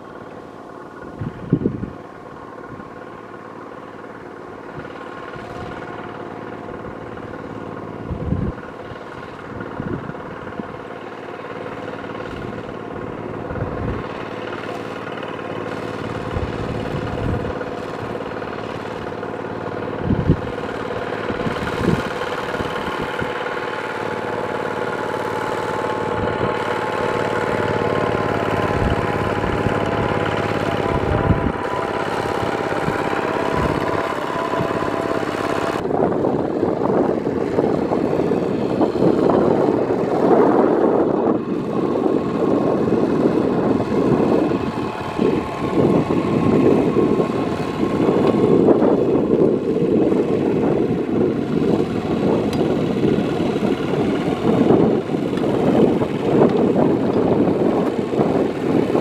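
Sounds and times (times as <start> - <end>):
diesel tractor engine running: 0.0 - 59.0
wheels churning through water: 0.0 - 59.0.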